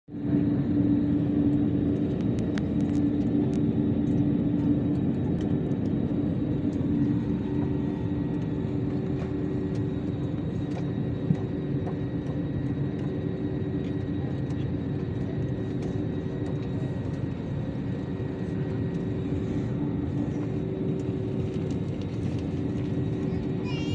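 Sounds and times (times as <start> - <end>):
rumble of aircraft engines: 0.0 - 23.9.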